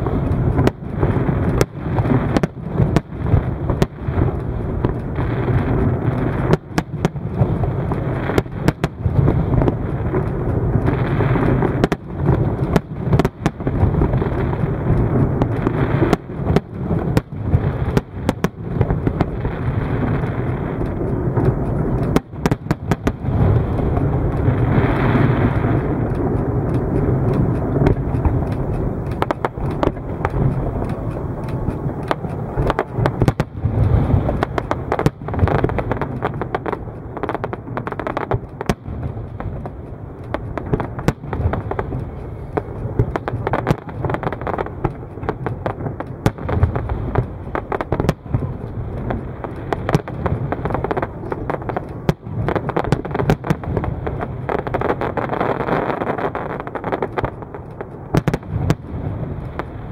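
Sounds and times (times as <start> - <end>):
fireworks bangs and crackles: 0.0 - 59.9
low background noise: 0.0 - 59.9.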